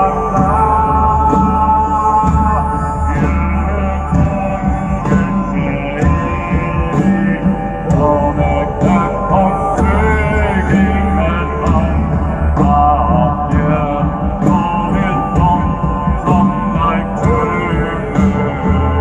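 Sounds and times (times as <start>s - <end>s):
bagpipe melody: 0.0s - 19.0s
steady drum beat: 0.0s - 19.0s.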